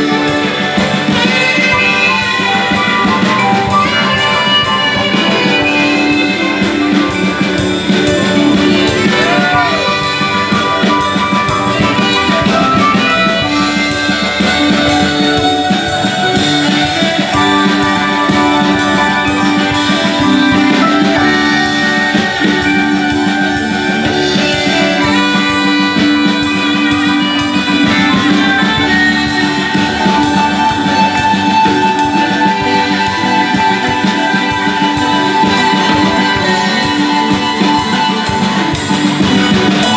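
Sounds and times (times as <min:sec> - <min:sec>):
live rock band playing: 0:00.0 - 0:39.9
saxophone holding long notes: 0:00.0 - 0:39.9.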